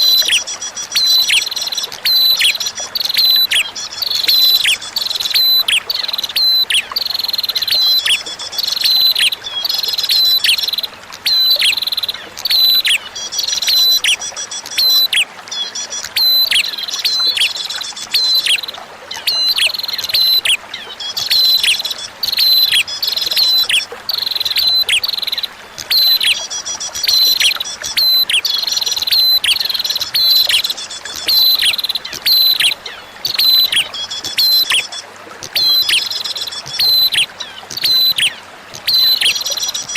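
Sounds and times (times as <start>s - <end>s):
bird chirping song: 0.0s - 39.9s
trickle of running water: 0.0s - 39.9s.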